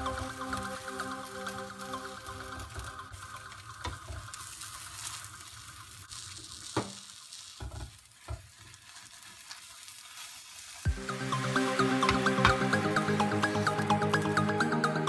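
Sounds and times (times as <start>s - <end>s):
crepe sizzling in a pan: 0.0s - 14.7s.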